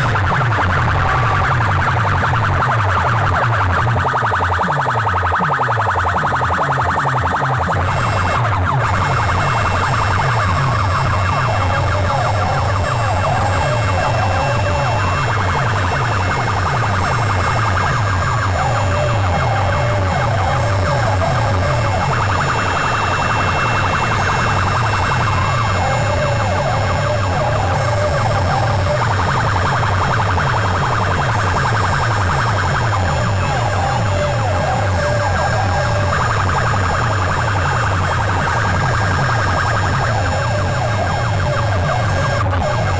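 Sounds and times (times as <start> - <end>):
fast heavy bass beat: 0.0 - 42.9
wailing siren-like sample: 0.0 - 42.9.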